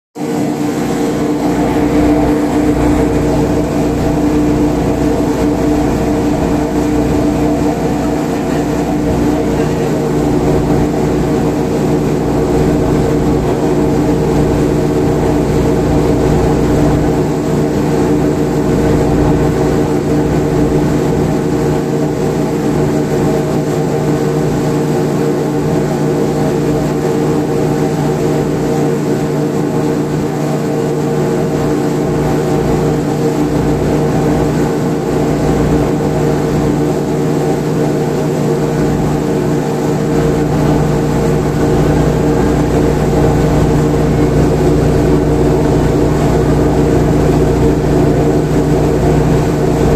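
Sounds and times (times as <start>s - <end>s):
boat engine droning: 0.2s - 49.9s.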